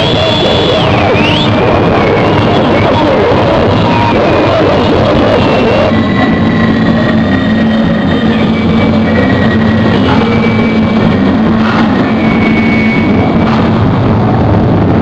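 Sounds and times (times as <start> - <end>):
high whistling tones: 0.0 - 13.9
amplified noise music: 0.0 - 15.0
low drone: 0.0 - 15.0.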